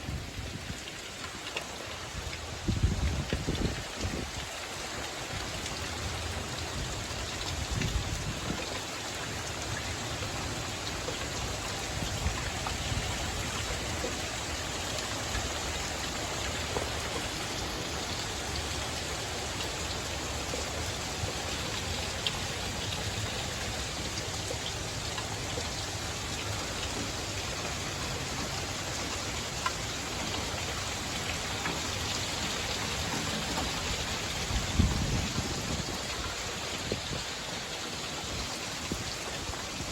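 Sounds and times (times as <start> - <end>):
raindrops ticking on surfaces: 0.0 - 39.9
heavy rain hissing: 1.8 - 39.9.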